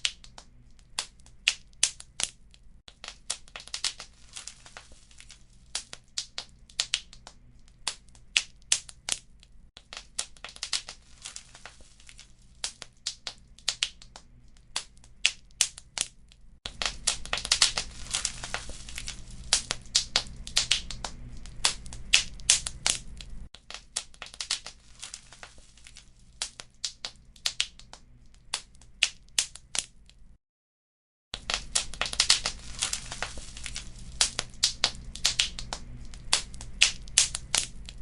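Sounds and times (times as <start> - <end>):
wood fire crackling: 0.0 - 30.2, 31.4 - 38.0
sharp pops and snaps: 0.0 - 30.4, 31.4 - 38.0.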